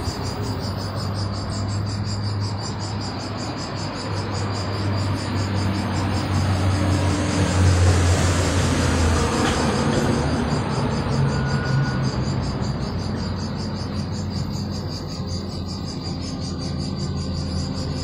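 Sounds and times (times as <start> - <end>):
distant traffic hum: 0.0 - 18.0
insects trilling: 0.0 - 18.0.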